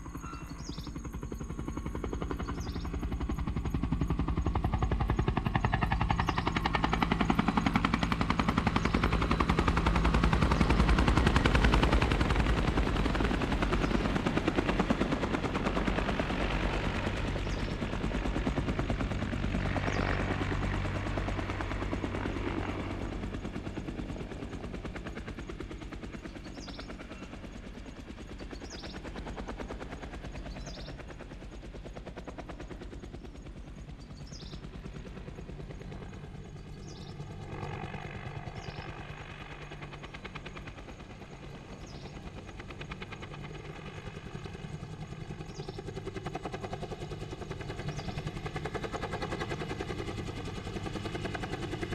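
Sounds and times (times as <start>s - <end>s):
helicopter passing: 0.0s - 51.9s.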